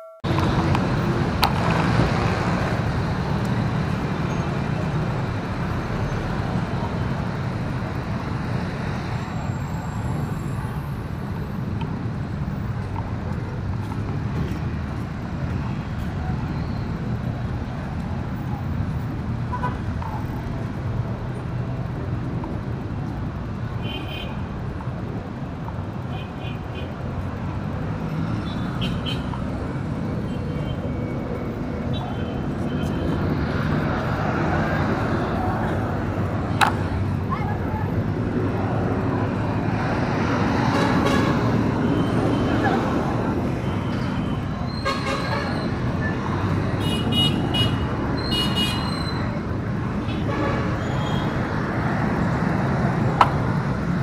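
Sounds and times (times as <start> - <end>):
heavy road traffic rumble: 0.2 - 54.0.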